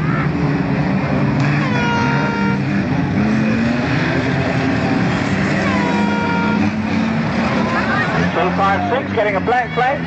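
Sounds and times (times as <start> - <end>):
racing car engines: 0.0 - 10.0.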